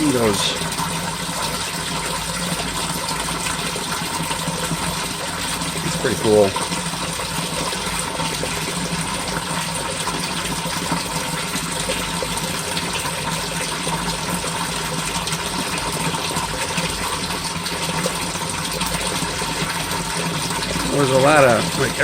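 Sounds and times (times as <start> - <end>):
water gushing in drain pit: 0.0 - 22.0.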